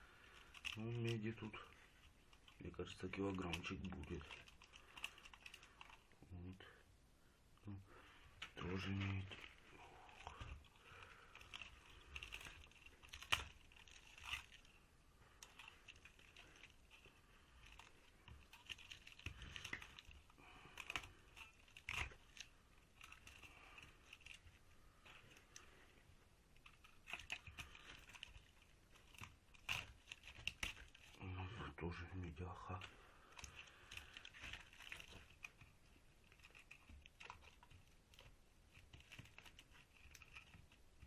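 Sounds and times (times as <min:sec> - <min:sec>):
copper wire scraping and crinkling: 0:00.0 - 0:06.8, 0:07.6 - 0:41.0.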